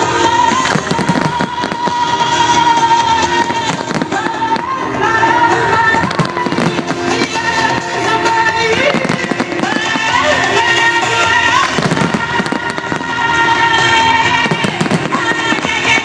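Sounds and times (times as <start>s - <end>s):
fireworks bursting and crackling: 0.0s - 16.0s
loud music: 0.0s - 16.0s.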